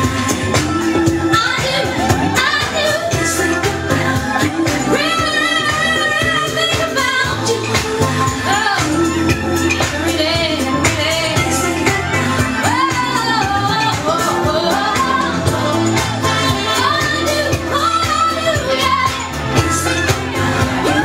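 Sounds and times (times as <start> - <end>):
loud dance music with singing: 0.0 - 21.0.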